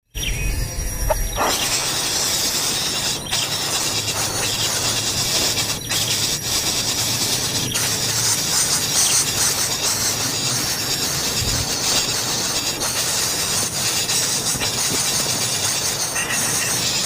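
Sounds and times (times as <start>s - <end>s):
loud high-pitched hiss: 0.1s - 17.0s.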